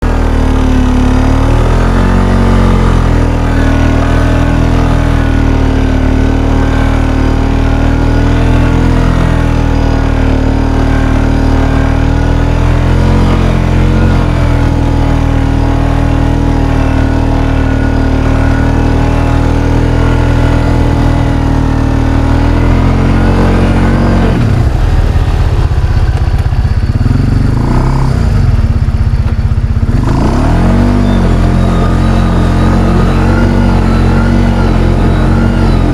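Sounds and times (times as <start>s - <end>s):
atv engine revving: 0.0s - 35.9s.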